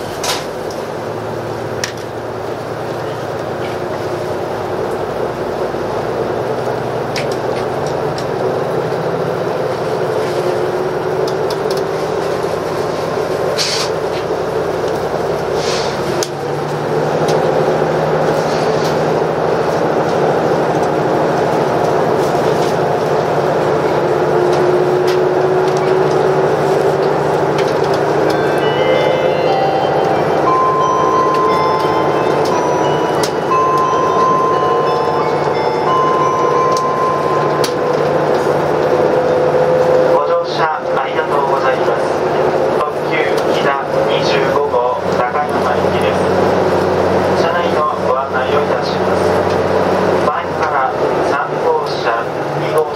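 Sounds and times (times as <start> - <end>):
railcar interior drone: 0.0 - 52.9.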